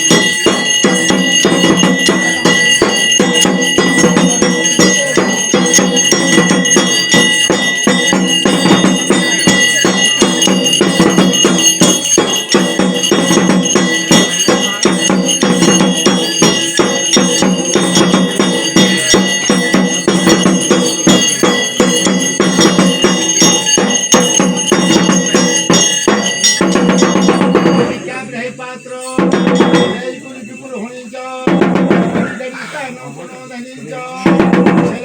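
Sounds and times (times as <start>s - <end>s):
bells ringing rhythmically: 0.0s - 35.0s.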